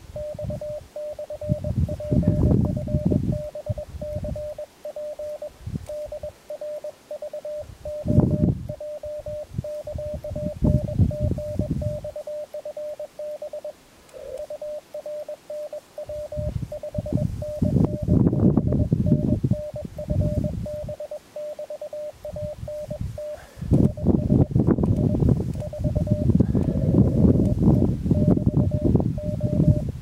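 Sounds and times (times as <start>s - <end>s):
morse code tone: 0.0s - 30.0s.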